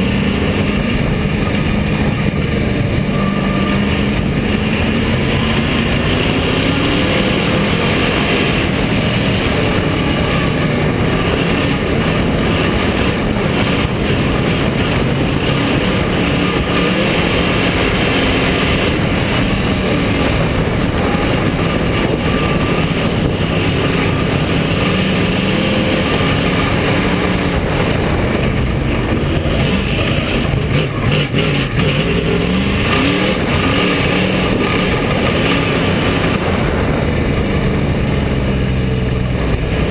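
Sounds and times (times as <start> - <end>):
race car engine revving: 0.0 - 39.9
rush of noise: 0.0 - 39.9.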